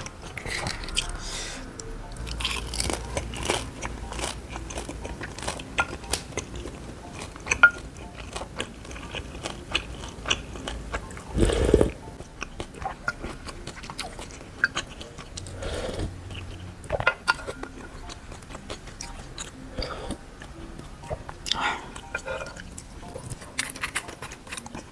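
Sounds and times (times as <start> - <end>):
person chewing food: 0.0 - 24.9.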